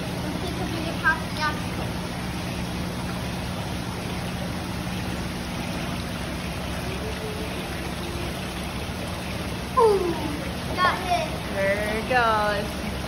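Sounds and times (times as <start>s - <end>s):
steady low hum: 0.0s - 13.0s
water rushing and swirling: 0.0s - 13.0s.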